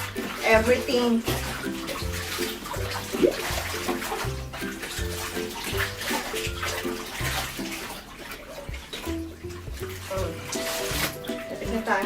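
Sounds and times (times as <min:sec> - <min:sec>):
background music with bass line: 0:00.0 - 0:07.9, 0:08.7 - 0:12.0
water sloshing in bathtub: 0:00.0 - 0:12.0.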